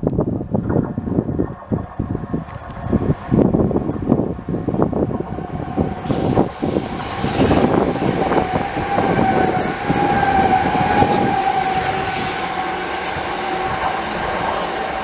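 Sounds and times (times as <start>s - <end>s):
high whine: 0.0s - 15.0s
train wheels rumbling on rails: 0.0s - 15.0s.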